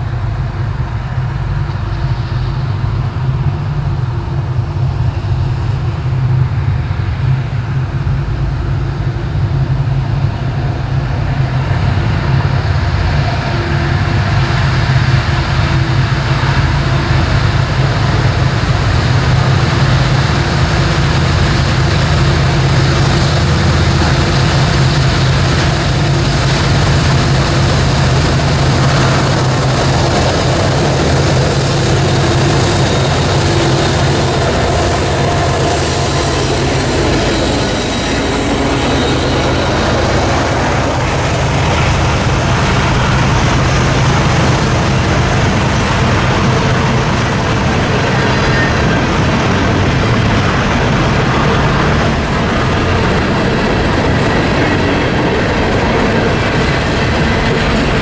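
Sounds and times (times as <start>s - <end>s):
diesel locomotives engine drone: 0.0s - 58.0s.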